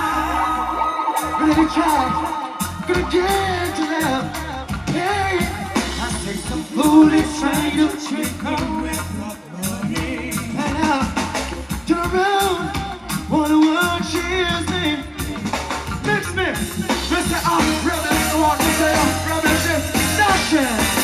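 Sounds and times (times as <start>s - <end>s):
person singing: 0.0s - 15.5s, 16.6s - 21.0s
live reggae band: 0.0s - 21.0s.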